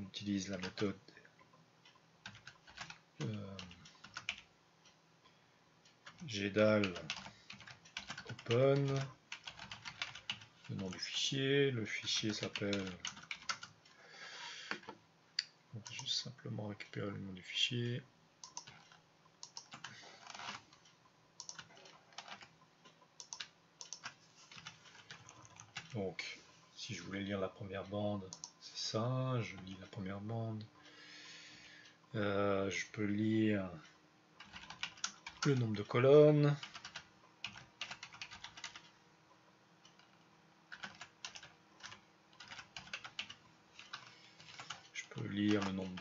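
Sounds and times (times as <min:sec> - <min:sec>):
faint keyboard typing: 0:00.1 - 0:14.0, 0:14.6 - 0:17.1, 0:18.4 - 0:26.3, 0:26.9 - 0:31.0, 0:33.8 - 0:39.0, 0:39.8 - 0:46.0.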